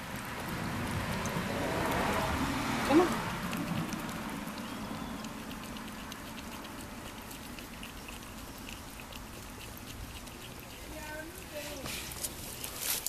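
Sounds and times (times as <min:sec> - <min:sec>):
cat licking wet clicks: 0:00.0 - 0:12.8.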